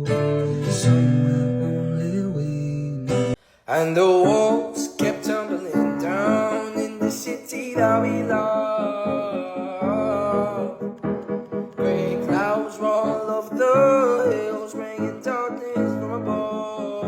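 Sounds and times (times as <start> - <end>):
person singing: 0.0 - 17.0
piano accompaniment: 0.0 - 17.0.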